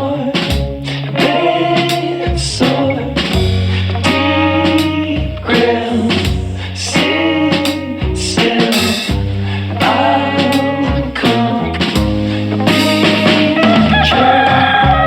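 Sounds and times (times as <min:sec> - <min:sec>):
rock blues music: 0:00.0 - 0:15.0.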